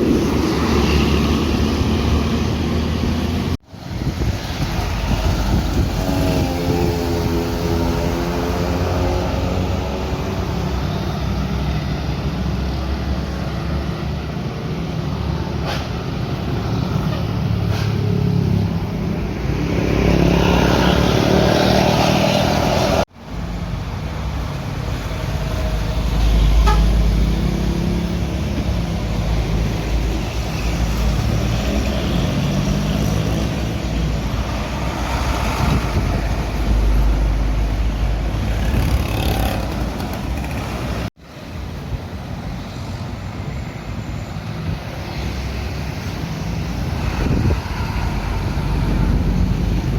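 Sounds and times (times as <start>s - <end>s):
diesel bus engines under load: 0.0s - 49.9s.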